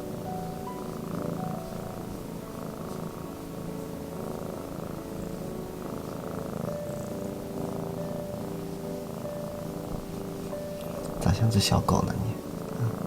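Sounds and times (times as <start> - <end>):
kitten purring: 0.0 - 13.0.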